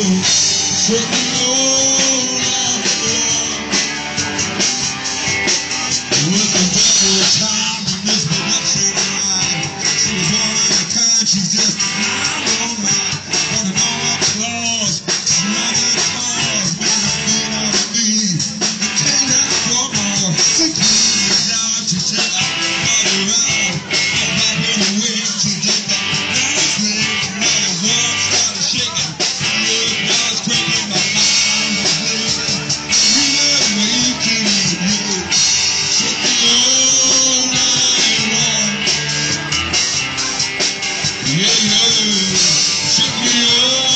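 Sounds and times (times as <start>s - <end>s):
drums: 0.0s - 43.9s
electric guitar: 0.0s - 43.9s
person singing: 0.0s - 43.9s
rock band playing live: 0.0s - 43.9s.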